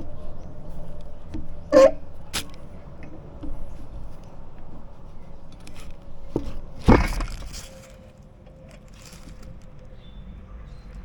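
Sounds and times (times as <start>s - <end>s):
light clicks and rustling: 0.0s - 10.0s.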